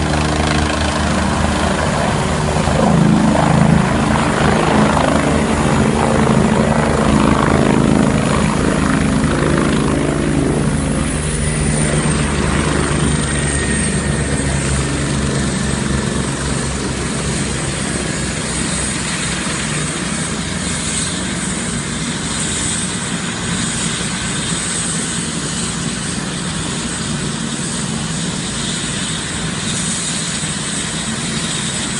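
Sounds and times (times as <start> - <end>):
helicopter rotor beat: 0.0 - 31.9
helicopter turbine whine: 0.0 - 31.9.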